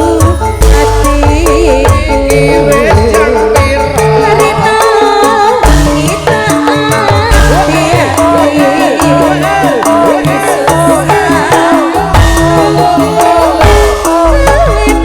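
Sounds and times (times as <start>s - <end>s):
held instrumental notes: 0.0s - 15.0s
person singing: 0.0s - 15.0s
steady drum beat: 0.0s - 15.0s.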